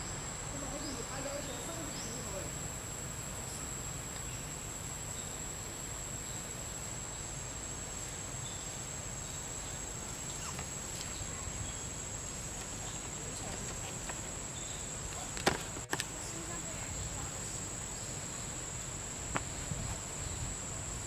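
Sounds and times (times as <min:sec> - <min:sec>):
faint outdoor background noise: 0:00.0 - 0:21.0
insects calling: 0:00.0 - 0:21.0.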